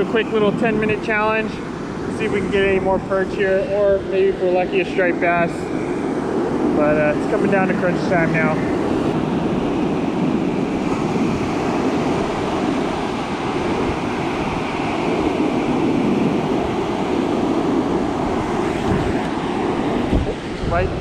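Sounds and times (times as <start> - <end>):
ocean surf breaking: 0.0 - 21.0
wind rumbling on microphone: 0.0 - 21.0.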